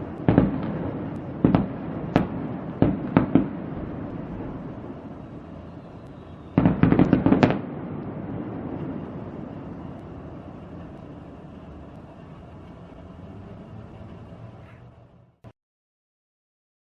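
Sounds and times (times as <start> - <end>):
distant fireworks cracking: 0.0 - 15.4
low rumbling echo: 0.0 - 15.4.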